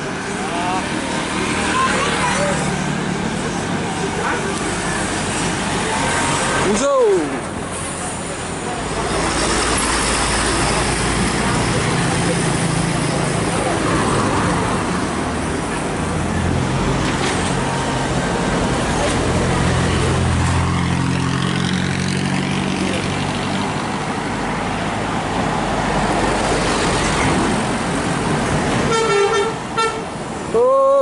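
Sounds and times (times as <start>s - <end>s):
heavy vehicle engine drone: 0.0s - 31.0s
traffic and tyre noise: 0.0s - 31.0s.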